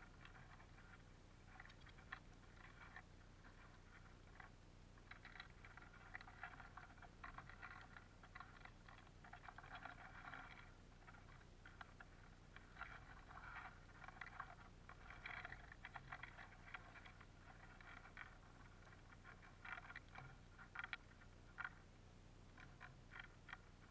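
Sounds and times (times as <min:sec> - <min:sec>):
seeds clicking and crackling: 0:00.0 - 0:21.9
low steady hum: 0:00.0 - 0:23.9.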